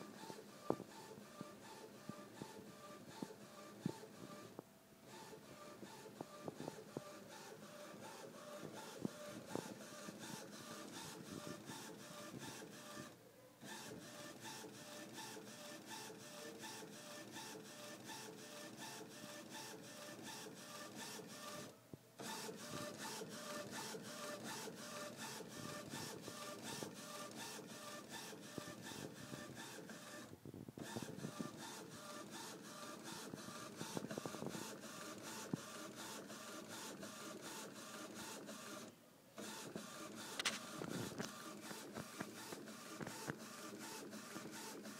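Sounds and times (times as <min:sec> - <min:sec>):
inkjet printer ticking and whirring: 0:00.0 - 0:44.9.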